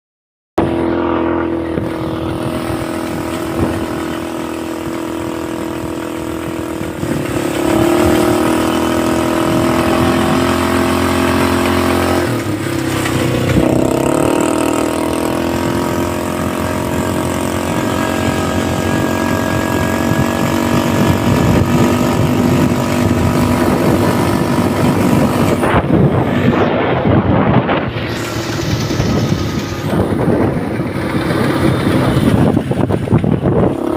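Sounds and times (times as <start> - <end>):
atv engine running: 0.6 - 33.9.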